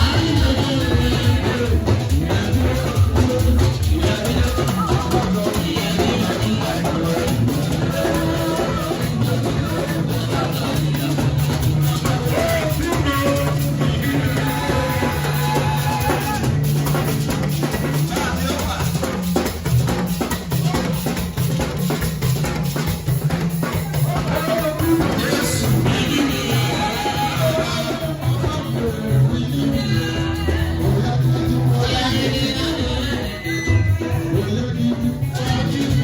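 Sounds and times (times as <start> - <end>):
drum kit beat: 0.0 - 36.0
guitar: 0.0 - 36.0
sustained bass notes: 0.0 - 36.0.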